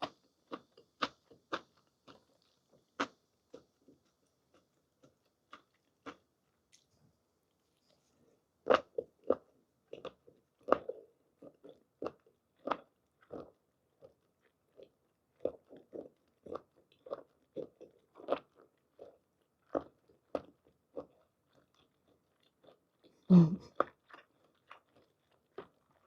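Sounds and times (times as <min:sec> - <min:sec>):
wet chewing: 0:00.0 - 0:06.9, 0:07.8 - 0:26.0.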